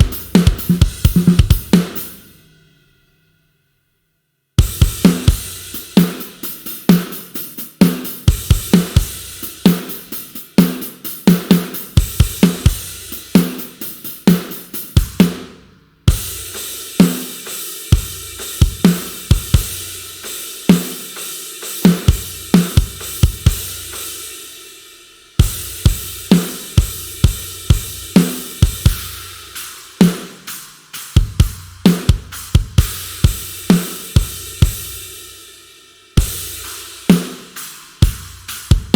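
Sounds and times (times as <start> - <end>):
rock drum kit grooves: 0.0 - 2.8, 4.6 - 38.9.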